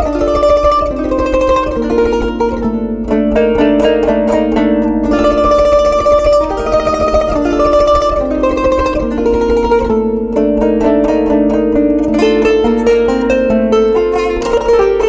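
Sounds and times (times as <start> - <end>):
plucked zither melody: 0.0 - 15.0.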